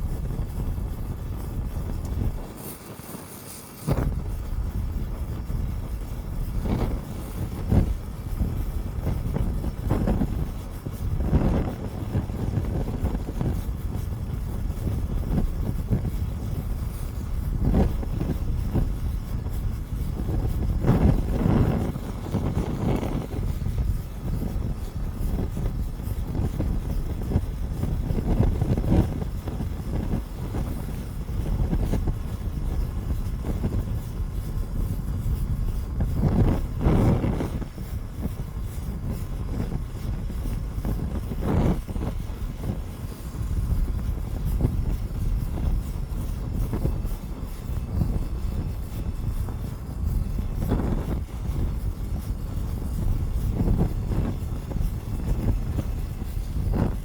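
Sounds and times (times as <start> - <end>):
large fire rumbling: 0.0 - 57.0.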